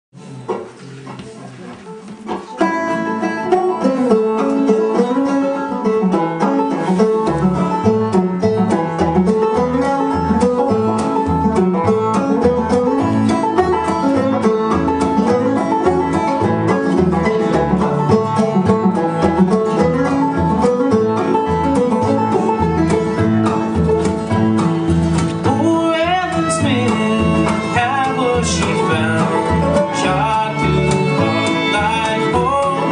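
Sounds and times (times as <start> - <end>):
picked banjo: 0.2 - 32.9
strummed acoustic guitar: 0.2 - 32.9
fiddle tune: 1.7 - 32.9
low bass notes: 3.7 - 32.9.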